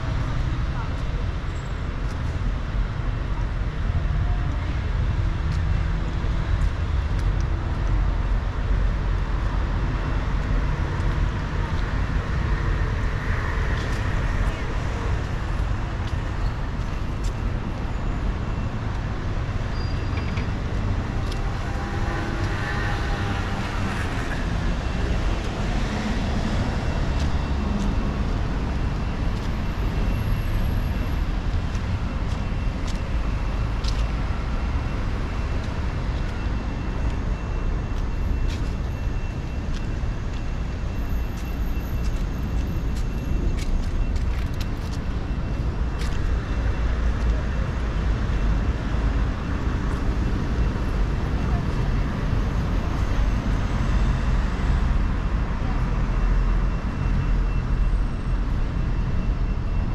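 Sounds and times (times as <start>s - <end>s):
low rumble of road traffic: 0.0s - 59.9s.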